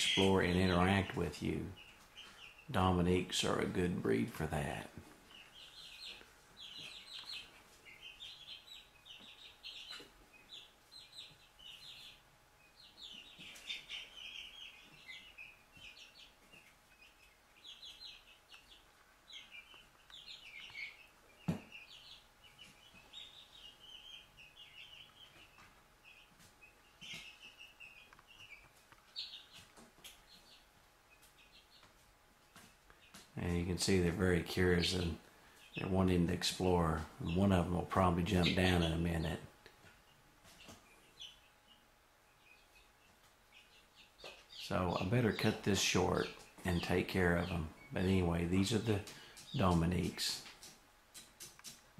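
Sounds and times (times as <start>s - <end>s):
chicks peeping: 0.0s - 51.9s.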